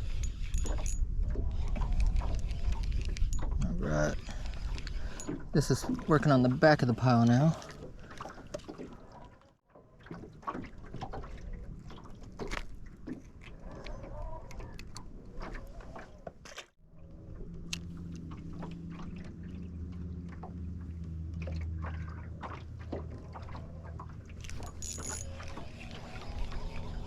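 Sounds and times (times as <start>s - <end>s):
water splashing: 3.3s - 27.0s.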